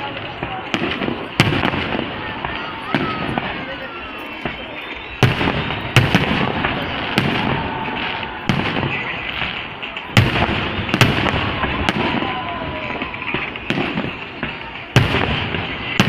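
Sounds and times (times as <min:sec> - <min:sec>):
continuous rush of noise: 0:00.0 - 0:16.0
fireworks bangs: 0:00.0 - 0:16.0.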